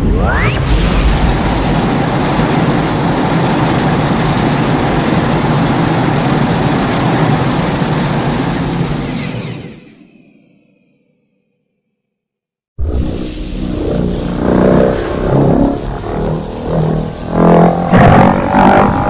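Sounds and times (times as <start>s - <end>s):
loud steady rushing noise: 0.0s - 9.8s, 12.8s - 19.0s.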